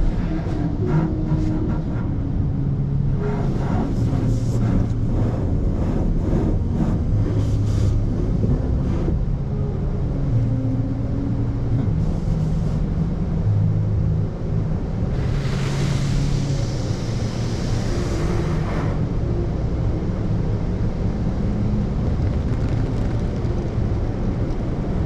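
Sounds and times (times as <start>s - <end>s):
car wash machinery rumble: 0.0s - 25.0s.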